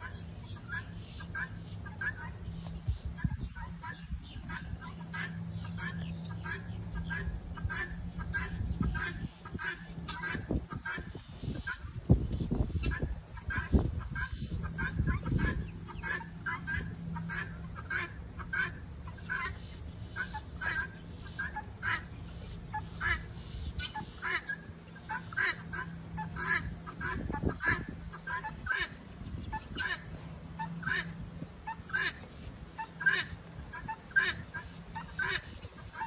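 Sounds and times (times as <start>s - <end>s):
birds honking: 0.0s - 36.0s.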